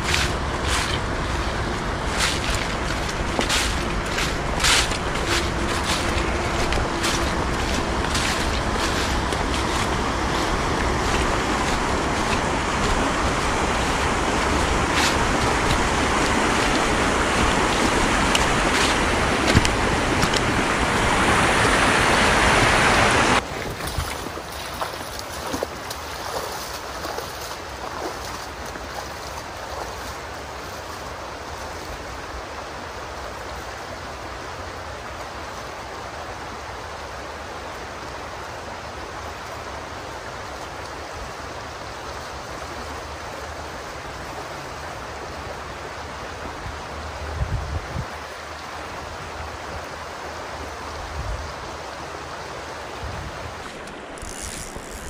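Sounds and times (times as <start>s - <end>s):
creek water flowing: 0.0s - 55.0s.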